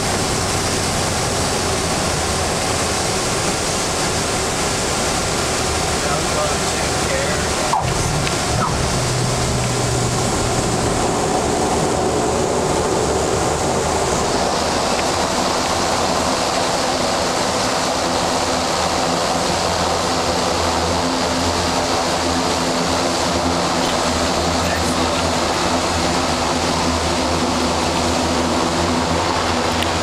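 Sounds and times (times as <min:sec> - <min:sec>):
propeller airplane engine drone: 0:00.0 - 0:30.0.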